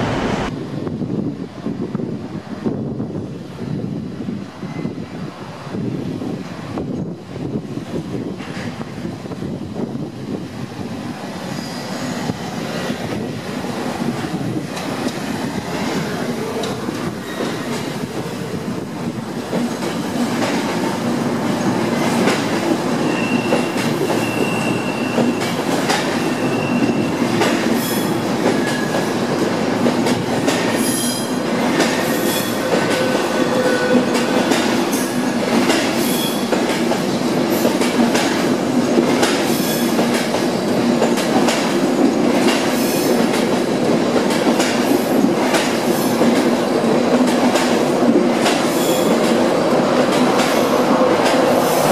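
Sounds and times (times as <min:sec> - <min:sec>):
wheels rumbling on rail: 0:00.0 - 0:51.9.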